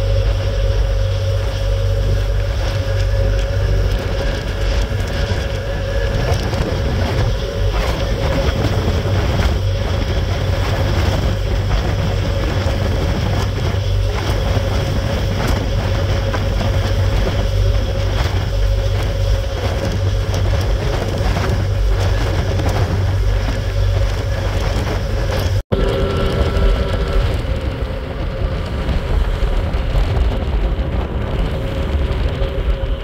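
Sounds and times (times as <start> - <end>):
ferry engines rumbling: 0.0 - 33.0
wind buffeting microphone: 0.0 - 33.0.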